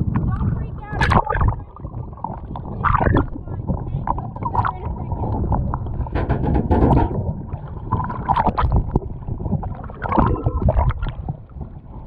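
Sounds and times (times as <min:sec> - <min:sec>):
low rumble: 0:00.0 - 0:12.0
muffled water splashing and gurgling: 0:00.0 - 0:12.0
sloshes and clicks: 0:01.0 - 0:12.0.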